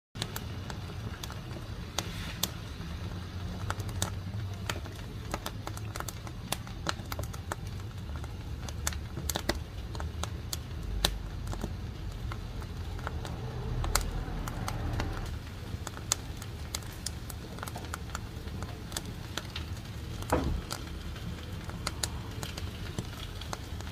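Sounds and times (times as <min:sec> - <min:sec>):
low steady fire rumble: 0:00.2 - 0:23.9
wood fire crackling and popping: 0:00.2 - 0:23.9.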